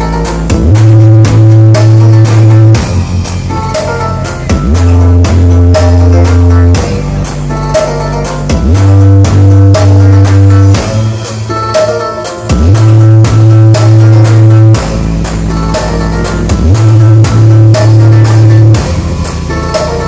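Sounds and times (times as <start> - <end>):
deep bass notes: 0.0 - 20.0
loud dance music: 0.0 - 20.0.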